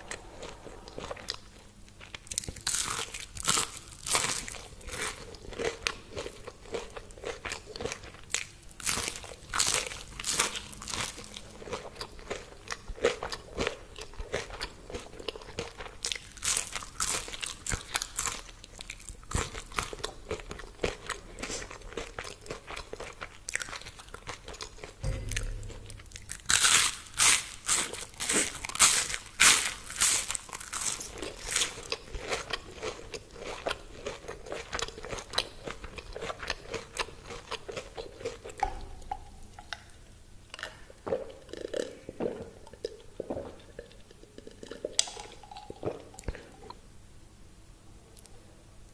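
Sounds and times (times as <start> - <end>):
crunching and chewing crispy food: 0.0 - 25.0, 26.5 - 46.8.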